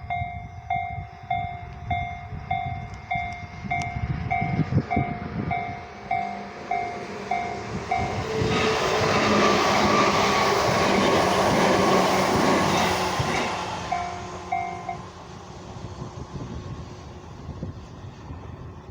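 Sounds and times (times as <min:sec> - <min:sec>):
crossing warning bell: 0:00.0 - 0:15.4
train rushing past: 0:00.0 - 0:18.9.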